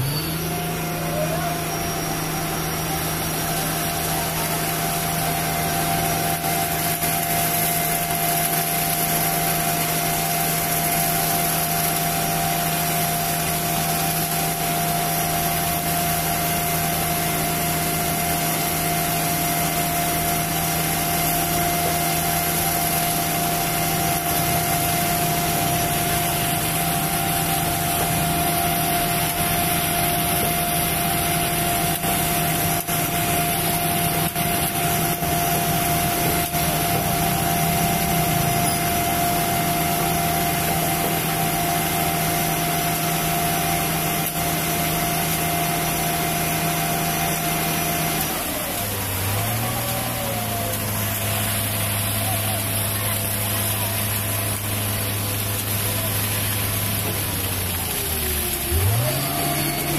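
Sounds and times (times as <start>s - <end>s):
concrete pouring down chute: 0.0s - 59.9s
truck engine running: 0.0s - 59.9s.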